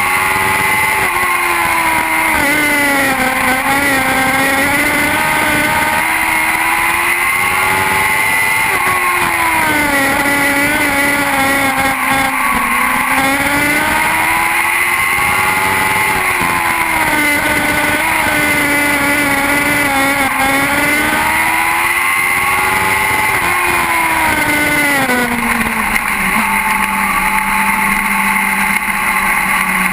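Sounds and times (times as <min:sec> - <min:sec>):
race car engines running laps: 0:00.0 - 0:29.9.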